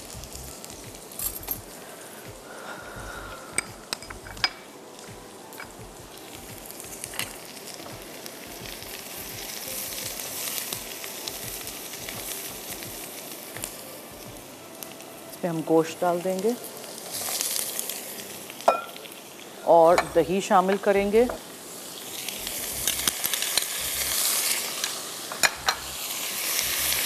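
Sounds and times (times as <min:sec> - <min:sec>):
onions sizzling in hot oil: 0:00.0 - 0:27.0.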